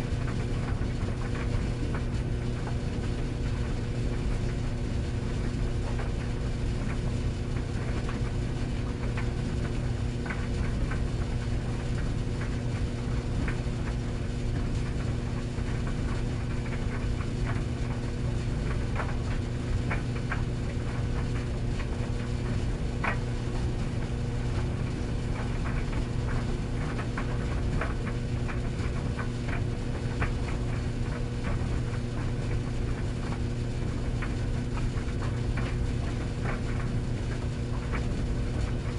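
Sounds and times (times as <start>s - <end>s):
tumble dryer motor hum: 0.0s - 38.9s
load tumbling clicks and taps: 0.2s - 2.8s, 5.3s - 38.9s.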